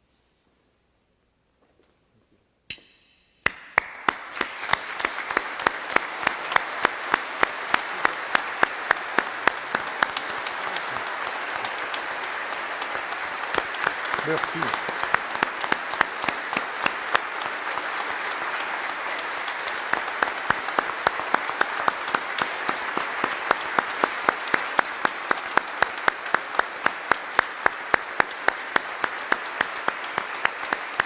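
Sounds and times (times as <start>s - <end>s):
close sharp even claps: 2.7s - 31.0s
crowd applauding: 3.5s - 31.0s.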